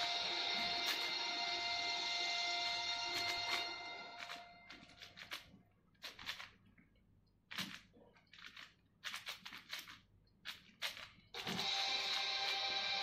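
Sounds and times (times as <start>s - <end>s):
puzzle cube layers clicking: 0.0s - 1.2s, 2.6s - 6.7s, 7.4s - 13.0s.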